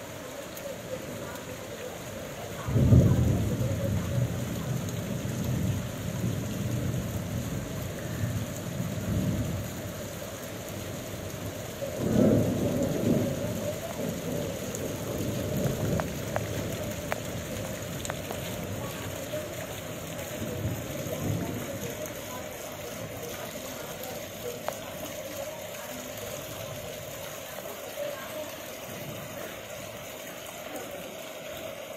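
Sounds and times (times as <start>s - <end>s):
heavy rain on pavement and vehicles: 0.0s - 31.9s.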